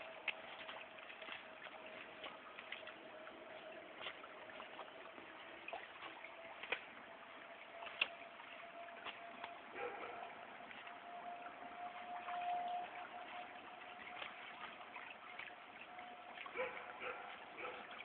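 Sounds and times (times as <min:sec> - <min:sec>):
rain falling and dripping: 0:00.0 - 0:18.0.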